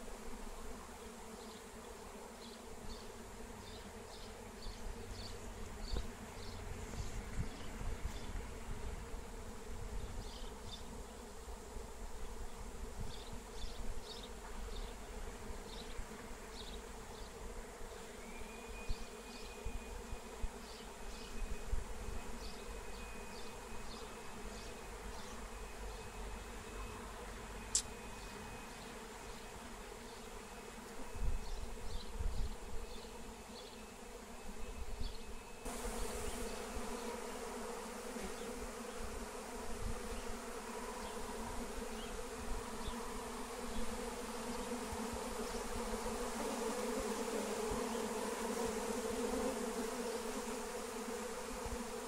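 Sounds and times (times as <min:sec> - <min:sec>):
bee swarm buzzing: 0:00.0 - 0:52.0.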